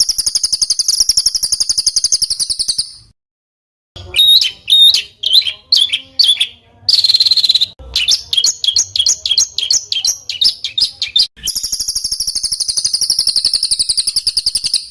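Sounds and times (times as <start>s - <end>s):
bird fast trill: 0.0s - 3.1s, 4.0s - 14.9s
songbird singing: 0.0s - 3.2s, 4.0s - 14.9s.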